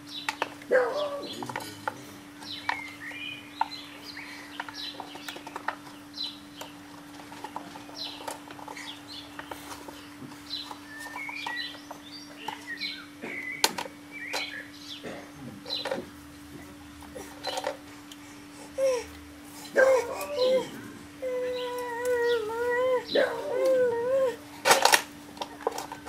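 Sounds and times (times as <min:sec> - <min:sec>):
small birds chirping: 0:00.0 - 0:24.6
faint steady hum: 0:00.0 - 0:26.0.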